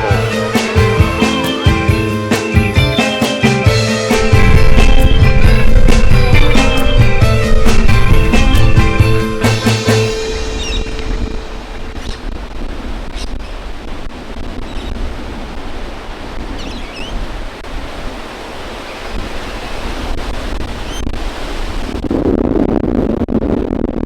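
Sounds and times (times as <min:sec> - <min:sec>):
wind buffeting microphone: 0:04.1 - 0:24.0.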